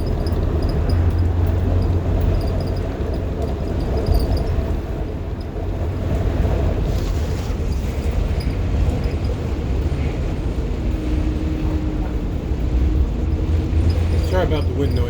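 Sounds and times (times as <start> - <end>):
bus diesel engine rumble: 0.0 - 15.0
road noise: 0.0 - 15.0
wind buffeting microphone: 0.0 - 15.0.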